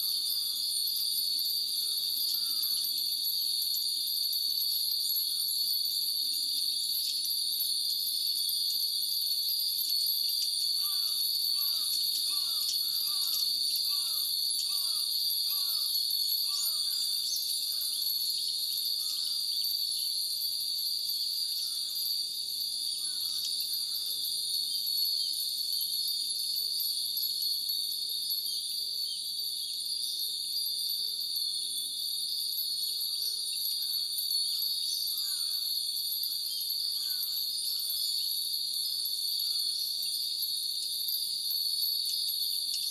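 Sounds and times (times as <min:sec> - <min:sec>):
cicadas shrilling: 0:00.0 - 0:42.9
glass wind bells tinkling: 0:00.0 - 0:42.9.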